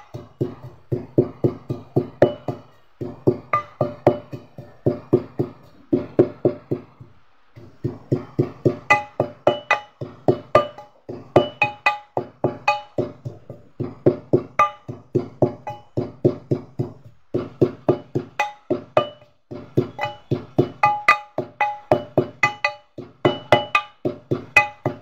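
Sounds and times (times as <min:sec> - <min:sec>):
pestle pounding in metal mortar: 0:00.0 - 0:25.0.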